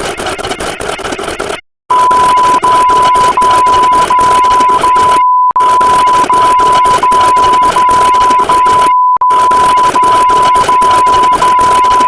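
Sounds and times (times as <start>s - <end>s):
harsh distorted noise: 0.0s - 12.0s
electronic beep tone: 1.9s - 12.0s.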